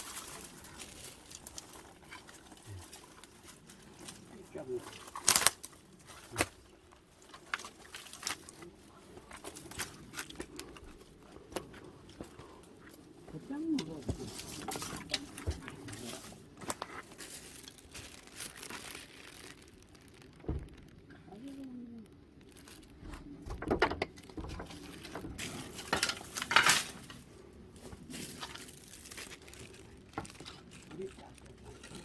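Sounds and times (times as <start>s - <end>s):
wood snapping: 0.0s - 4.2s, 4.9s - 12.2s, 13.8s - 27.2s, 28.2s - 32.0s
firewood rustling and crinkling: 0.0s - 32.0s.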